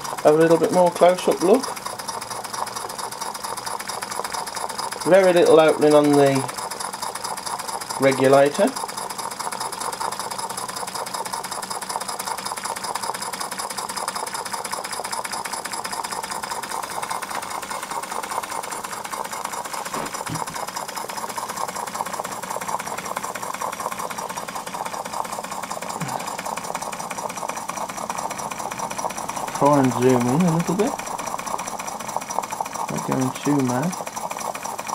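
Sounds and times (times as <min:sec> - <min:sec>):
model steam engine beating: 0:00.0 - 0:34.9.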